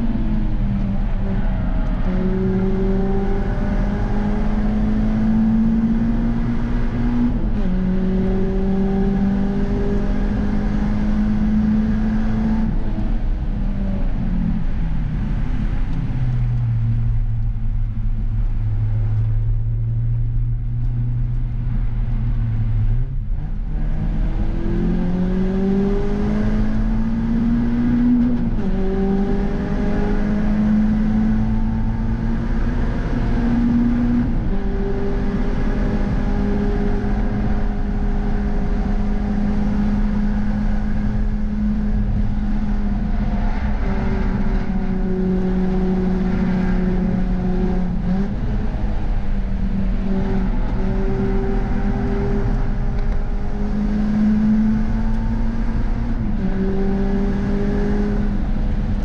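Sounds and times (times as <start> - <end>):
car engine revving: 0.0 - 59.0
tyre and road noise: 0.0 - 59.0.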